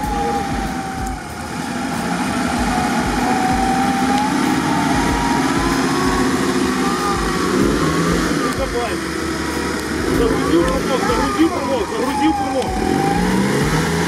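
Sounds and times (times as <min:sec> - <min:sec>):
engine running under load: 0:00.0 - 0:14.0.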